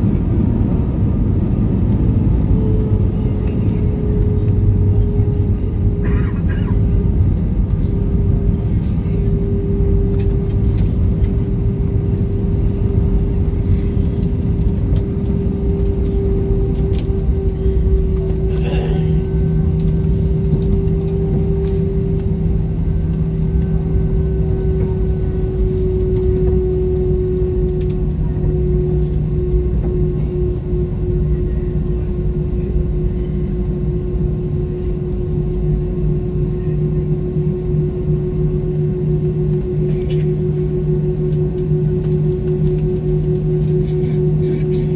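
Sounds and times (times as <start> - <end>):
jet engines whining near idle: 0.0 - 44.9
low rumble of aircraft rolling: 0.0 - 44.9.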